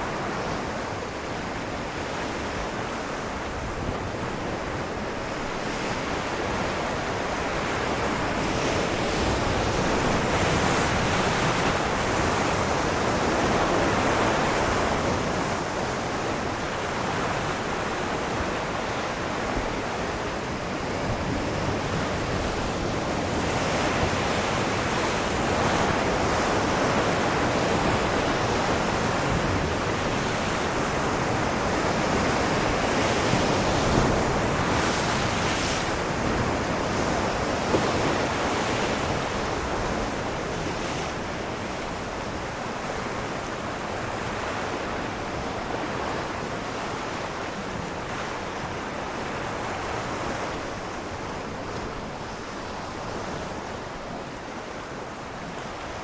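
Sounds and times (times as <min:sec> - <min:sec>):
ocean waves breaking on rocks: 0:00.0 - 0:56.0.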